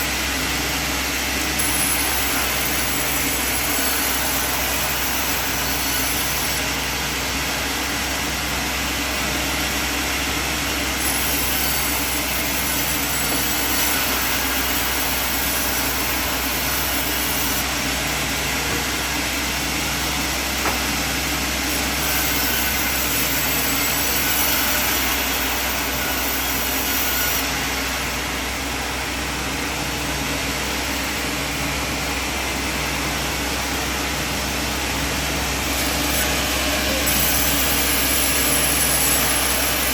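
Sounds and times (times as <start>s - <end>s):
sawmill machine running: 0.0s - 39.9s.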